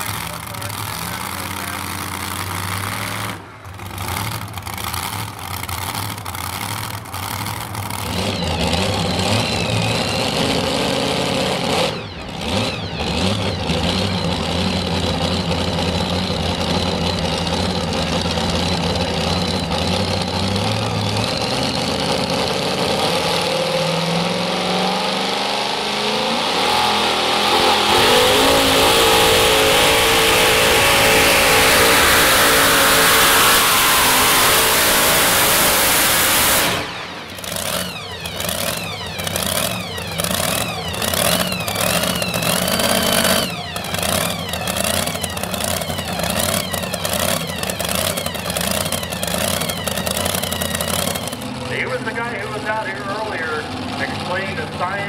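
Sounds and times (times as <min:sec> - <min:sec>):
truck engine idling and revving: 0:00.0 - 0:55.0.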